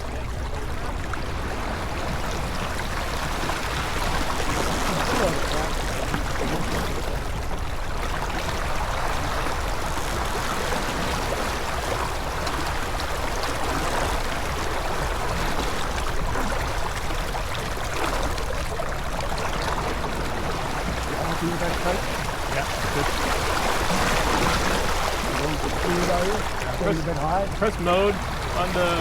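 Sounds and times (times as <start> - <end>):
water rushing along boat hull: 0.0 - 29.0.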